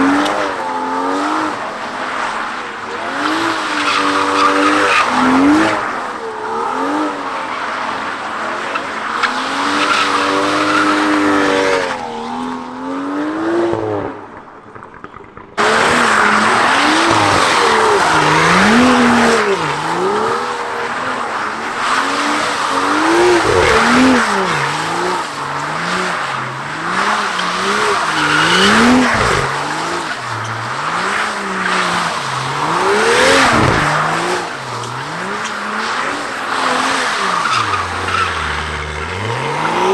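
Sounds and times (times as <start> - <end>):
tyres screeching: 0.0 - 12.6, 15.6 - 39.9
car engine revving: 0.0 - 39.9.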